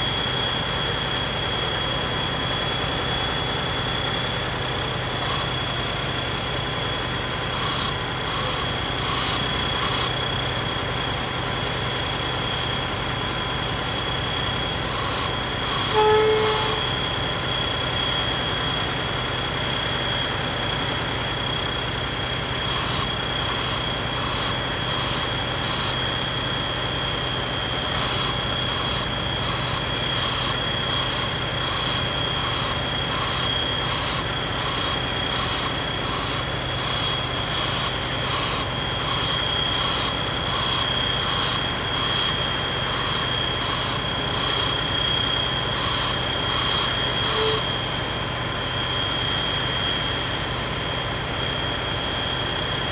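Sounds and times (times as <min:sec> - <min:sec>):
constant high whine: 0:00.0 - 0:52.9
pile driving rig droning: 0:00.0 - 0:52.9.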